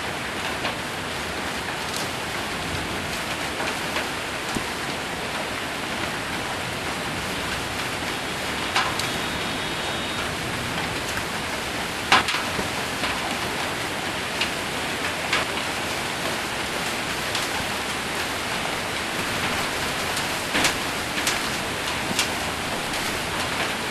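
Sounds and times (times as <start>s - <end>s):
heavy rain on a metal roof: 0.0s - 23.9s.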